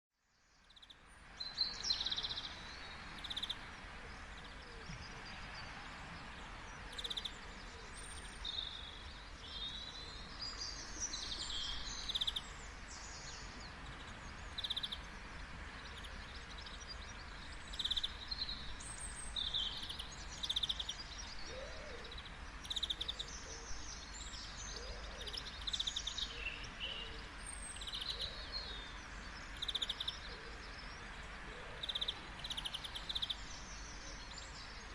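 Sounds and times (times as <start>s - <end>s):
outdoor background hiss: 0.2s - 34.9s
small birds chirping: 0.3s - 34.9s.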